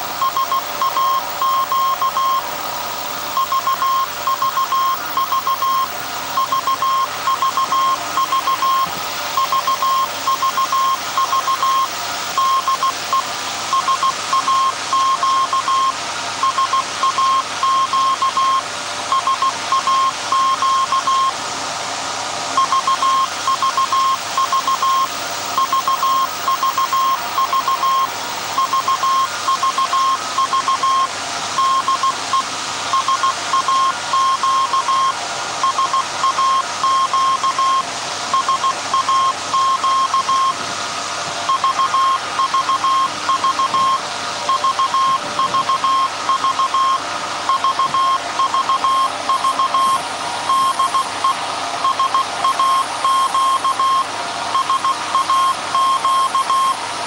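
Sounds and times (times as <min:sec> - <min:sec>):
morse code tone: 0:00.0 - 0:21.4, 0:22.6 - 0:37.8, 0:38.4 - 0:40.6, 0:41.5 - 0:56.8
background hum and hiss: 0:00.0 - 0:57.0.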